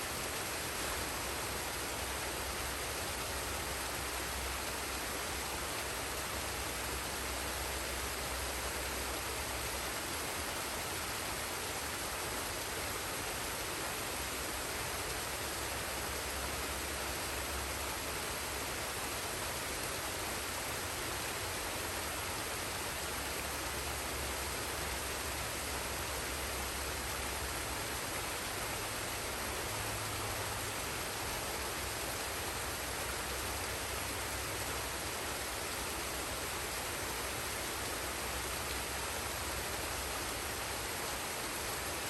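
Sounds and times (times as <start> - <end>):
waterfall and stream rushing: 0.0 - 42.0.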